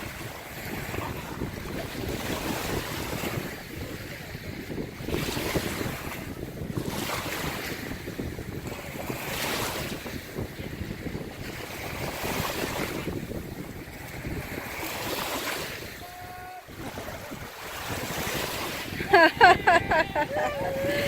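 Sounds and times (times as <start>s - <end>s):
lake waves washing in: 0.0s - 21.0s
wind buffeting microphone: 0.0s - 21.0s.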